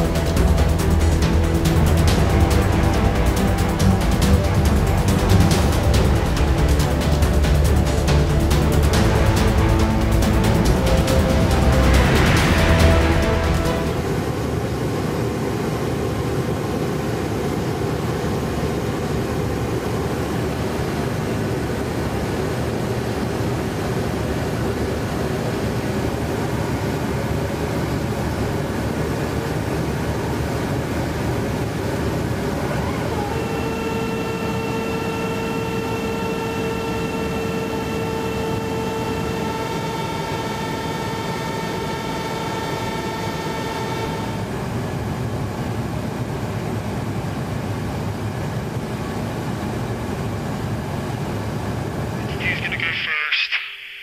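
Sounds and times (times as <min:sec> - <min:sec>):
aircraft engine and airflow noise: 0:00.0 - 0:54.0
steady multi-pitched whine: 0:00.0 - 0:54.0.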